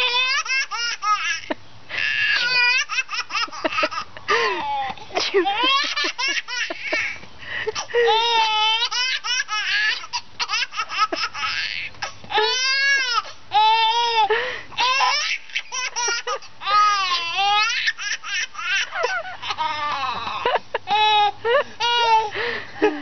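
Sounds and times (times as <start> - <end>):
baby laughing: 0.0 - 22.4.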